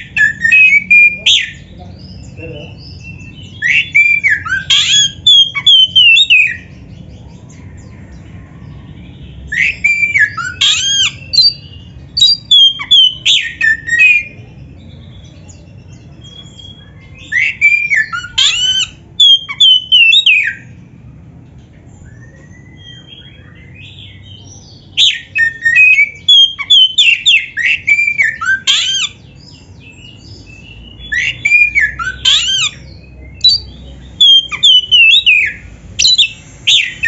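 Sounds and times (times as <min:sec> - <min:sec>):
bird singing whistled phrases: 0:00.0 - 0:06.7, 0:09.1 - 0:14.5, 0:15.5 - 0:20.8, 0:22.0 - 0:37.0.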